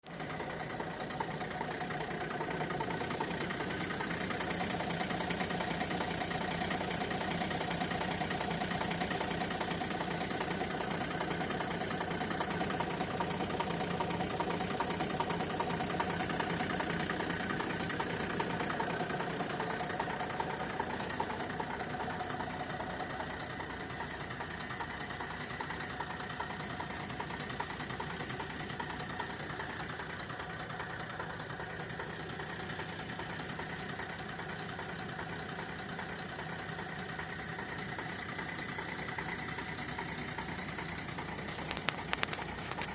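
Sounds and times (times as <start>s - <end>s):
diesel engine idling with knock: 0.0s - 42.9s.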